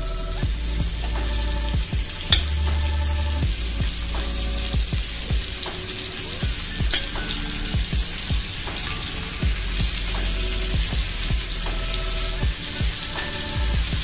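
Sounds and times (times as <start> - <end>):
background music with a beat: 0.0 - 14.0
chicken sizzling in butter: 0.0 - 14.0.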